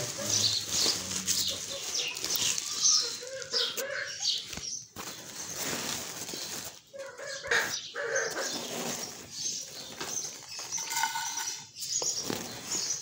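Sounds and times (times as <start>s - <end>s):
plastic sack rustling: 0.0s - 7.1s, 8.2s - 13.0s.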